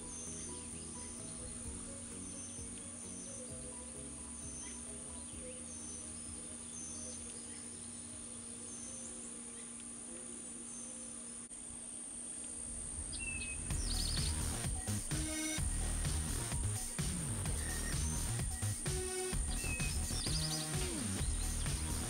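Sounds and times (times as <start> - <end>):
high-pitched insect drone: 0.0 - 22.0
songbird chirping: 0.0 - 22.0.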